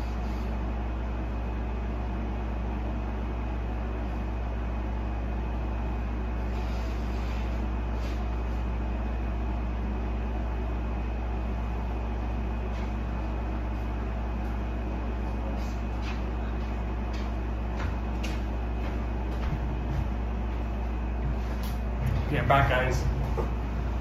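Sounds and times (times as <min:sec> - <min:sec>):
low machine hum with hiss: 0:00.0 - 0:24.0
thin steady whine: 0:00.0 - 0:24.0.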